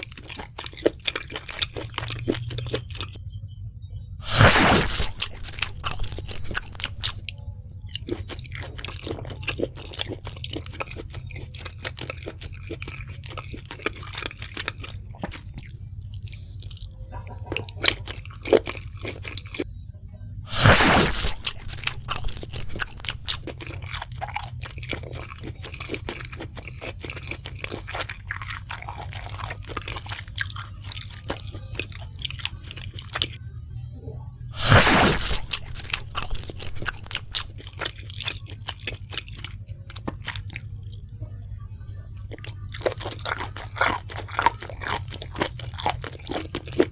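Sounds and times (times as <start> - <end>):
loud crunching bite: 0.0 - 3.2, 4.2 - 19.7, 20.5 - 33.4, 34.5 - 46.9
chewing crispy food: 0.0 - 46.9
steady low hum: 0.0 - 46.9.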